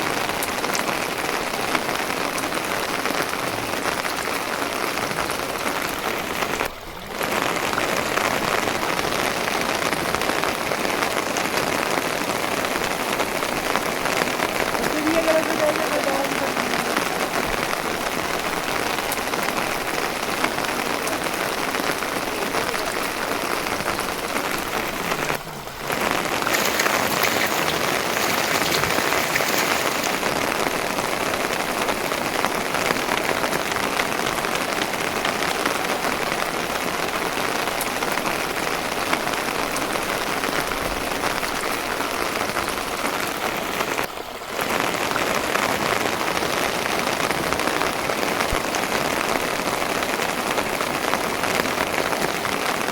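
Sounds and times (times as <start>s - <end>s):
steady rain patter: 0.0s - 52.9s.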